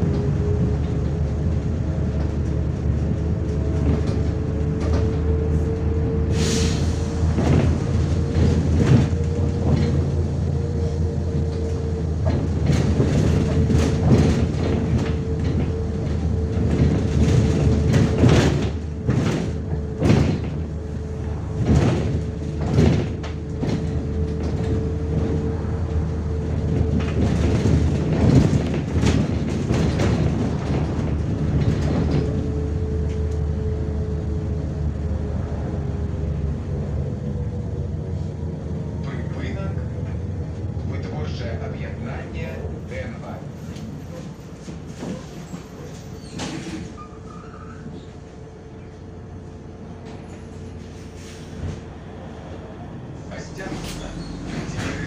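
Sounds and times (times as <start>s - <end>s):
bus body knocks and rattles: 0.0s - 6.4s, 7.1s - 34.9s, 36.4s - 55.0s
bus engine drone: 0.0s - 55.0s
road rumble: 0.0s - 55.0s.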